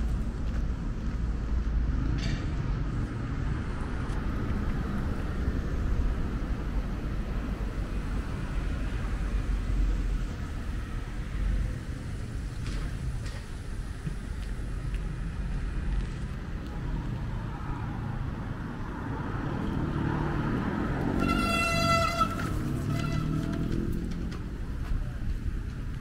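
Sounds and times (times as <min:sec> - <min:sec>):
cars passing rumble: 0:00.0 - 0:26.0.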